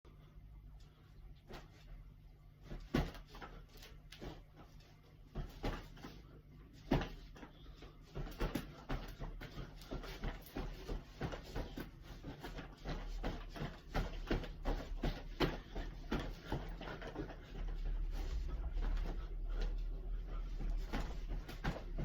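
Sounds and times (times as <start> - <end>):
shuffling and rustling: 2.6 - 22.0.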